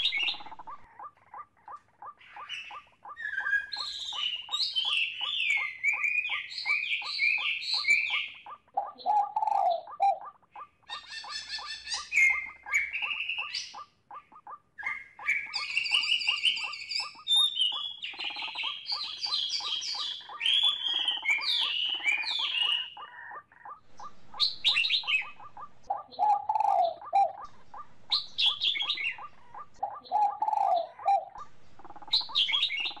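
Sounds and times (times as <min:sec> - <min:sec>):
birds chirping and calling: 0:00.0 - 0:33.0
rapid ticking bird call: 0:00.0 - 0:33.0.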